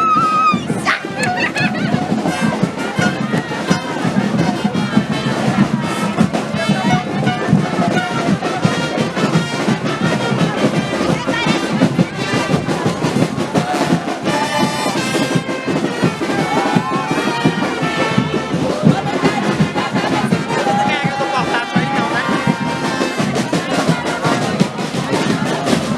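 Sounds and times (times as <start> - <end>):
brass band playing carnival music: 0.0 - 25.9
continuous percussion: 0.0 - 25.9
trumpets and trombones: 0.0 - 25.9.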